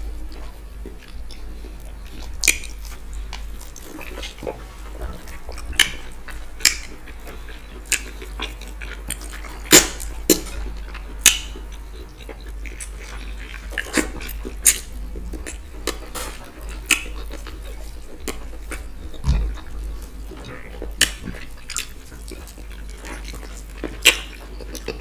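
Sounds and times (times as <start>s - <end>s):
mouth smacks and chewing: 0.2s - 25.0s.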